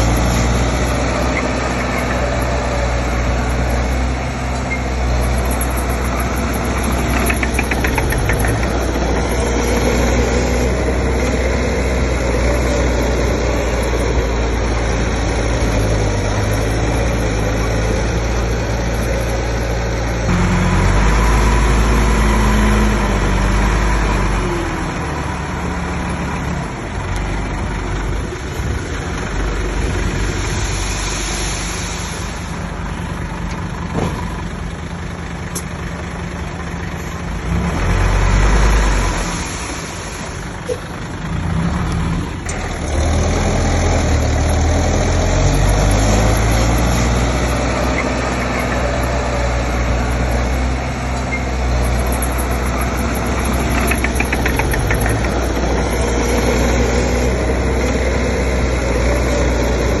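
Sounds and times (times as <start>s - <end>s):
diesel machinery engine drone: 0.0s - 60.0s.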